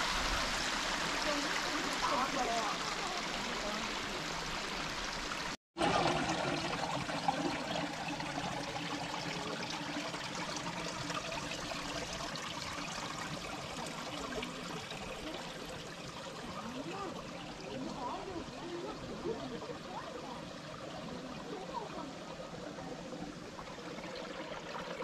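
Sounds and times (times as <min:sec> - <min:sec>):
stream water running over rocks: 0:00.0 - 0:25.0.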